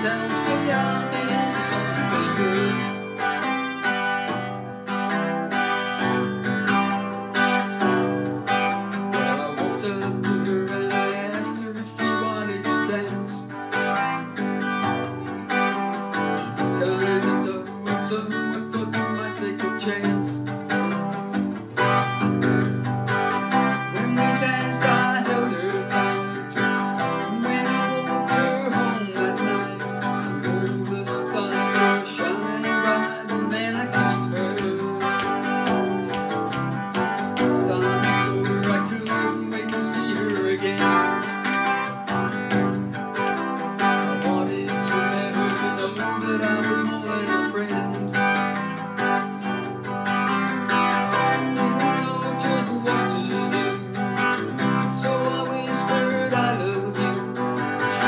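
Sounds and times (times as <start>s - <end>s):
electric guitar strummed: 0.0s - 58.0s.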